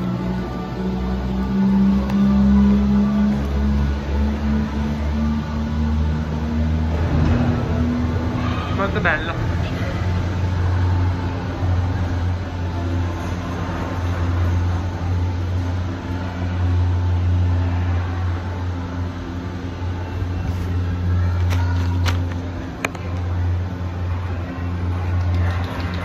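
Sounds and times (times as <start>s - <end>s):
cable car machinery humming: 0.0s - 26.0s.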